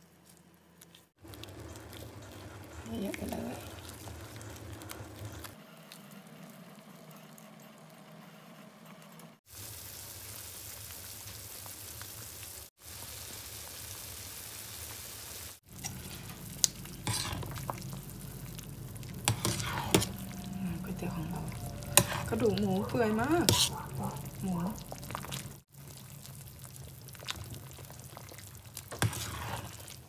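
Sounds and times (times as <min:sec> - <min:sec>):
broth bubbling in pot: 0:01.2 - 0:07.2, 0:09.5 - 0:30.0.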